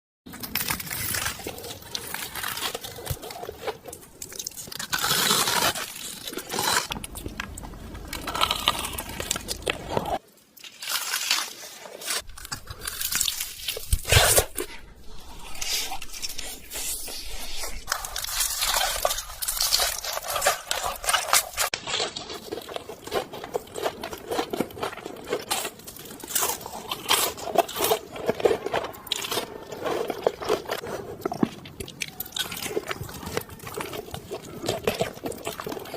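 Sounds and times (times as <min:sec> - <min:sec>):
crunchy chewing: 0:00.3 - 0:35.9.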